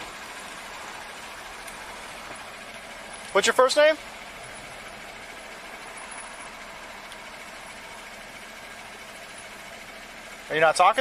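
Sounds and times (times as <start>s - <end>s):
road noise: 0.0s - 11.0s
vehicle engine idling: 0.0s - 11.0s.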